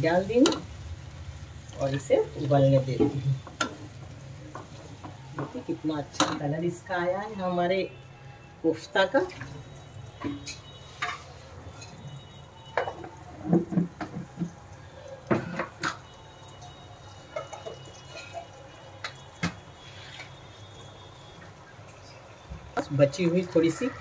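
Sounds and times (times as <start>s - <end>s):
gravy bubbling in a pan: 0.0s - 24.0s.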